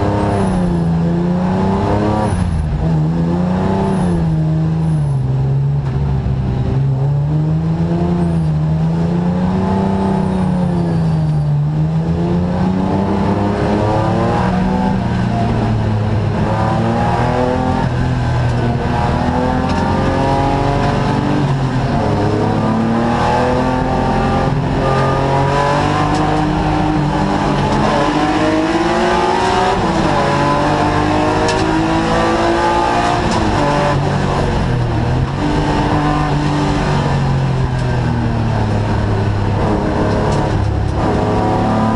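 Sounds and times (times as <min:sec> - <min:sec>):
race car engine revving: 0:00.0 - 0:41.9.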